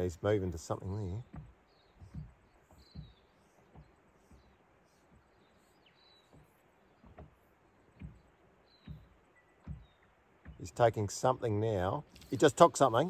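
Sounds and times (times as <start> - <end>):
bird chirp: 0.0 - 13.0
soft low thumps: 0.0 - 13.0.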